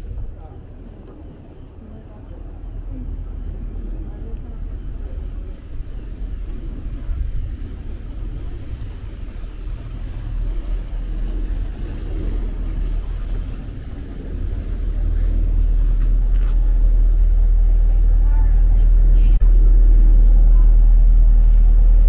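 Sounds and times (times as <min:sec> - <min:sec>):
boat engine rumble: 0:00.0 - 0:22.0.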